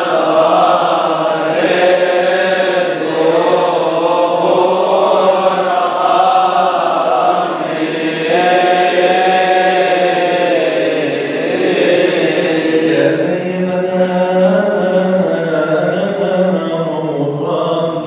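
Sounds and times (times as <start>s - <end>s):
men chanting a hymn: 0.0s - 18.0s.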